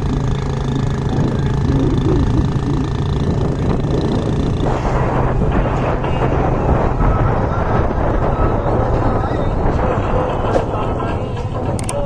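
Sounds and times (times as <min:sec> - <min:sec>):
loud noise: 0:00.0 - 0:12.0
motor running: 0:00.0 - 0:12.0.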